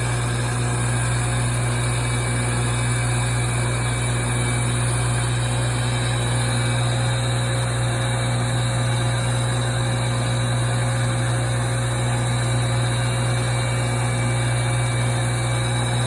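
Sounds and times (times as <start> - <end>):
lathe motor humming: 0.0 - 16.0.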